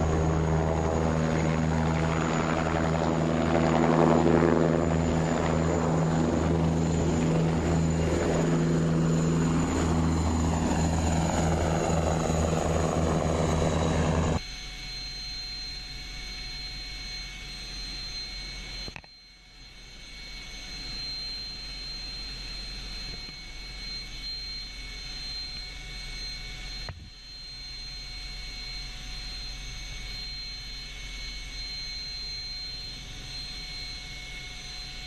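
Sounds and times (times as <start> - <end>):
helicopter turbine whine: 0.0 - 35.0.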